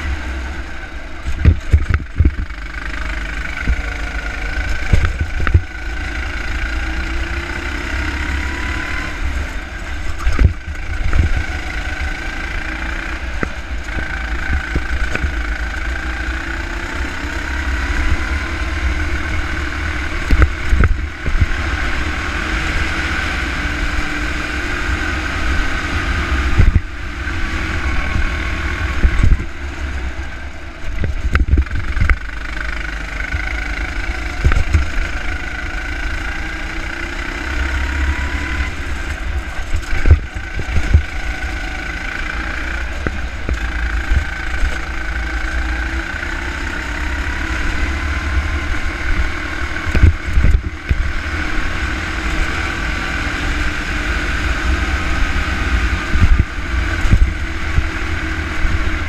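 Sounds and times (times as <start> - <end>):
go-kart engine running: 0.0 - 59.0
wind rumble on microphone: 0.0 - 59.0.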